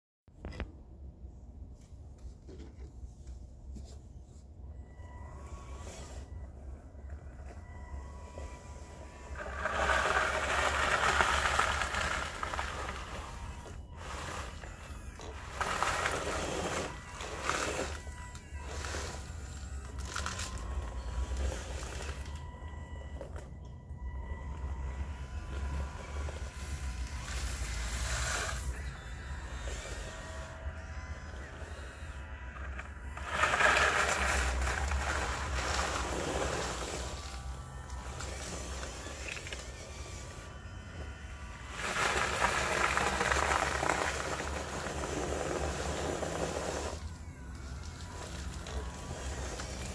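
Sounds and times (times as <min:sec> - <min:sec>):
electric motor whine: 0:04.6 - 0:49.9.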